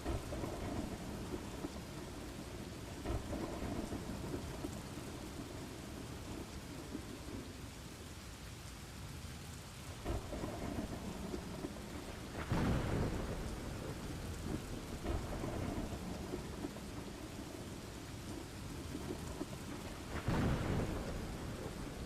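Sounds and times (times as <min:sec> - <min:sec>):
rolling thunder: 0:00.0 - 0:07.6, 0:10.0 - 0:22.0
steady rain: 0:00.0 - 0:22.0.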